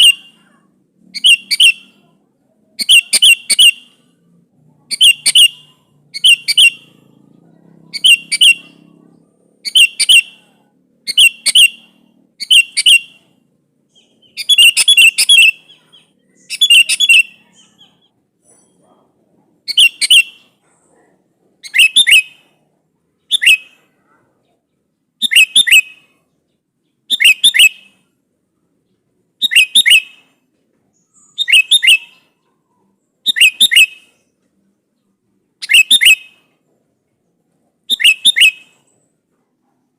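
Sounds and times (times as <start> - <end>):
bulbul chirping calls: 0.0 - 18.8, 19.6 - 20.6, 21.6 - 24.6, 25.2 - 28.1, 29.3 - 34.4, 35.0 - 36.6, 37.8 - 39.0.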